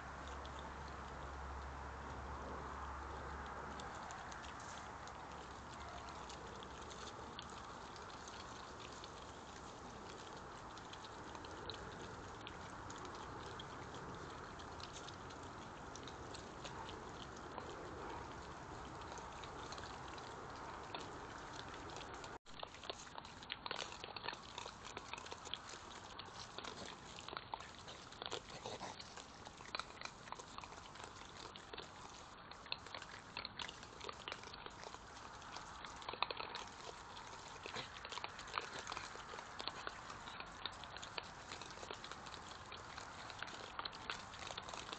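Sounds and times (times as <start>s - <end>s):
badgers chewing and rooting: 0.0s - 44.9s.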